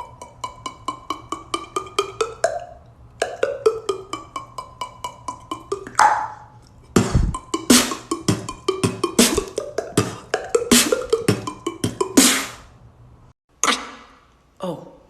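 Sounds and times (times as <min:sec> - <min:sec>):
beatboxed tongue clicks and pops: 0:00.0 - 0:12.6.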